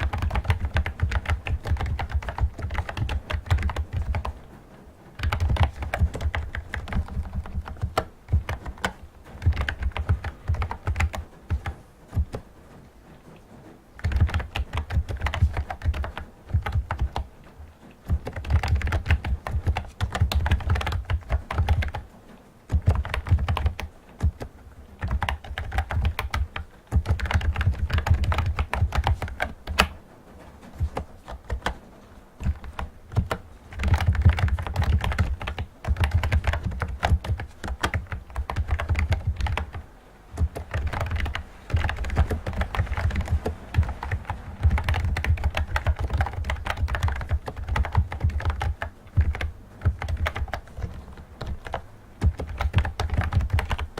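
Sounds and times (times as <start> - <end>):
keyboard key clicks: 0.0 - 4.4, 5.2 - 12.5, 14.0 - 17.3, 18.0 - 22.1, 22.7 - 30.0, 30.7 - 31.8, 32.4 - 53.9.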